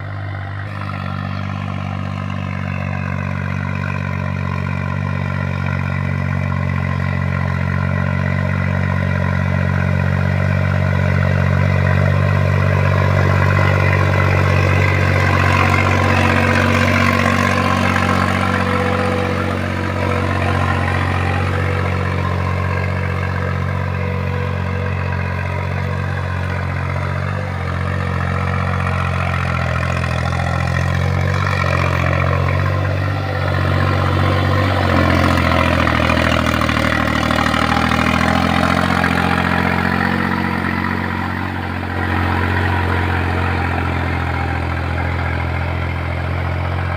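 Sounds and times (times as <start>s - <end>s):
engine clatter: 0.0s - 46.9s
tractor diesel engine running: 0.0s - 46.9s.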